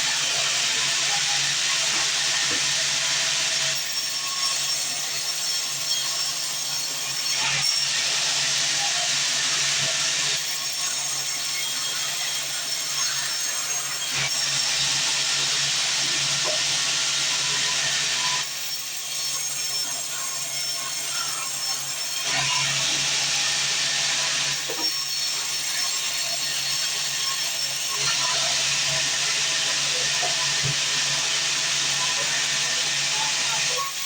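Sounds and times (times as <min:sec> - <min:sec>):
band saw cutting wood: 0:00.0 - 0:34.0.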